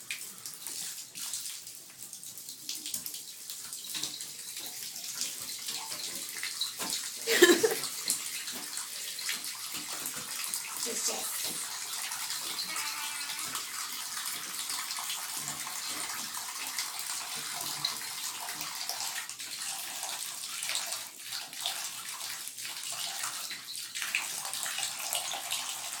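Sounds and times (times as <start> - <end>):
tap water running into basin: 0.0 - 26.0.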